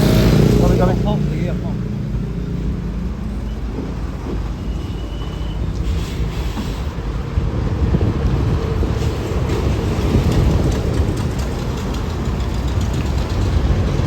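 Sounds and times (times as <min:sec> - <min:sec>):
heavy vehicle engine rumbling: 0:00.0 - 0:14.0
road traffic: 0:00.0 - 0:14.0.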